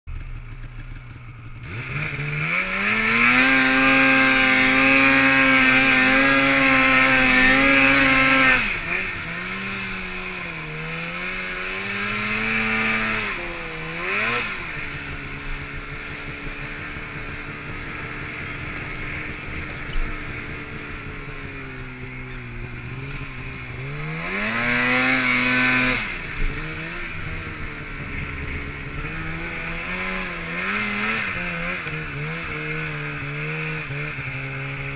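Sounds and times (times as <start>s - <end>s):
snowmobile engine revving: 0.1s - 34.9s.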